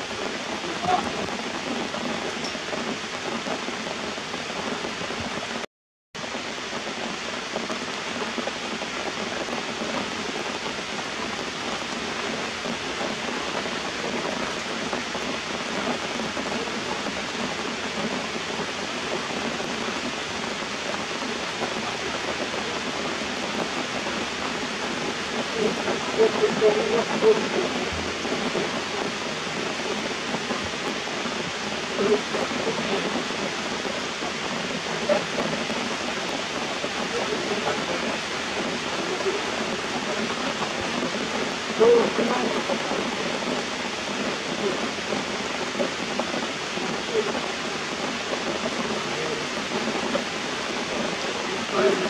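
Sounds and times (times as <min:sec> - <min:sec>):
rain on leaves and rocks: 0:00.0 - 0:52.0.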